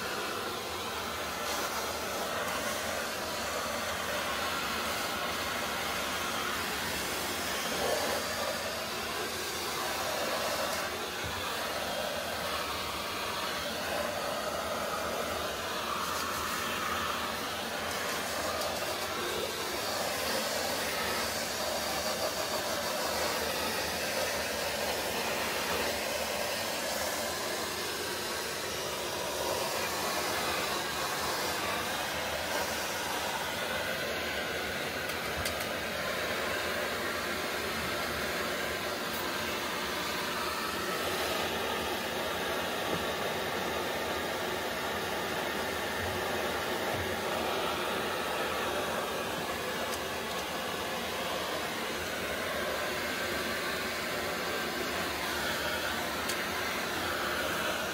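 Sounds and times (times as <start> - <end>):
vacuum cleaner on tiled floor: 0.0 - 57.9.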